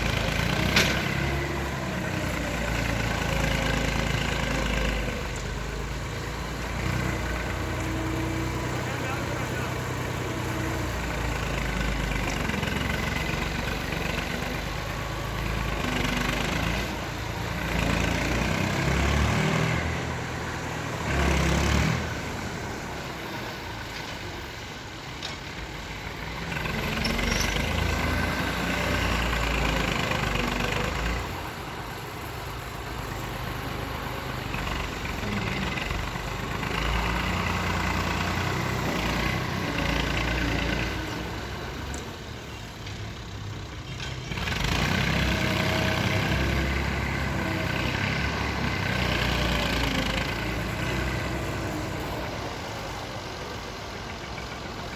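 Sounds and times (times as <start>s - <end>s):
excavator diesel engine surging: 0.0s - 54.9s.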